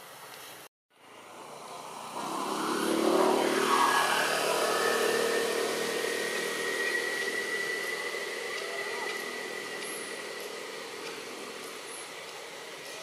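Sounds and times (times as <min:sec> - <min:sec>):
vehicle engine accelerating: 0:01.0 - 0:13.0.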